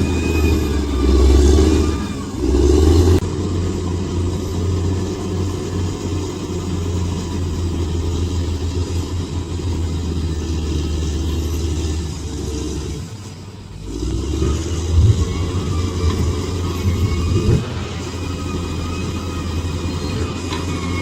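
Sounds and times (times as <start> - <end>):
bulldozer diesel engine drone: 0.0 - 21.0.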